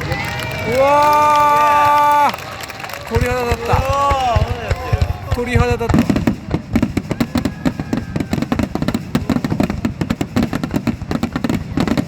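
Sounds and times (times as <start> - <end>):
firework bursts crackling: 0.0 - 12.0.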